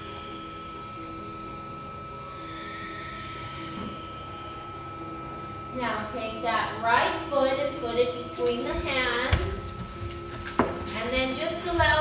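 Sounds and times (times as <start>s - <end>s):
room tone hiss and hum: 0.0s - 12.0s
thin high tone: 0.0s - 12.0s.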